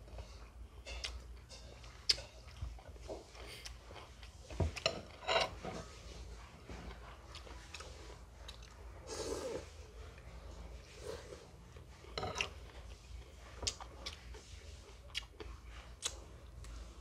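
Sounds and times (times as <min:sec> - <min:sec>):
man chewing food: 0:00.0 - 0:17.0.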